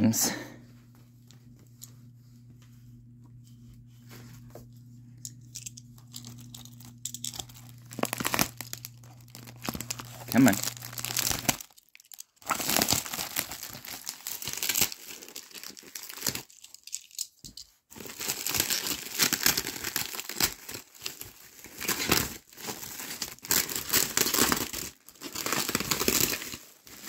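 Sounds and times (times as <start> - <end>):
bubble wrap crinkling: 3.0 - 27.0.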